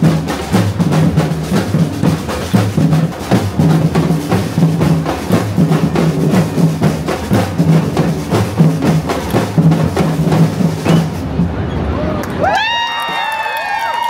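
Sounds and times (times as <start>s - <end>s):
drum line playing fast rhythm: 0.0s - 11.7s.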